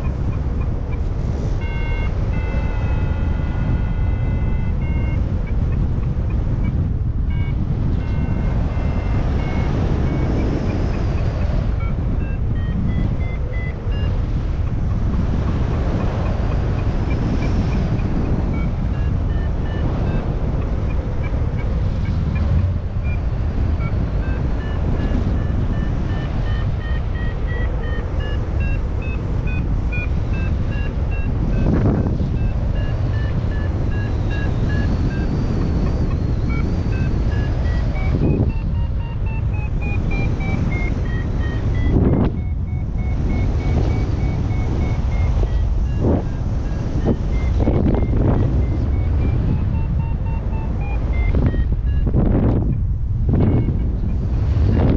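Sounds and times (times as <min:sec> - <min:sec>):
variometer beeps: 0:00.0 - 0:54.9
wind rush on microphone: 0:00.0 - 0:54.9.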